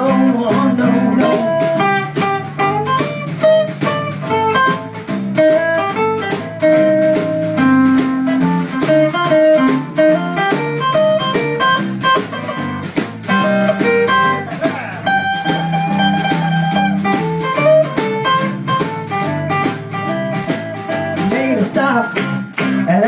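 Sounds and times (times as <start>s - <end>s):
picked guitar melody: 0.0s - 23.0s
strummed guitar chords: 0.0s - 23.0s.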